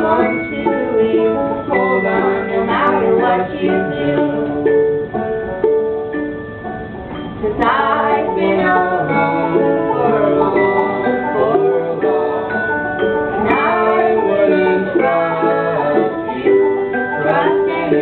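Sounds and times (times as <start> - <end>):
acoustic band with plucked strings: 0.0 - 18.0.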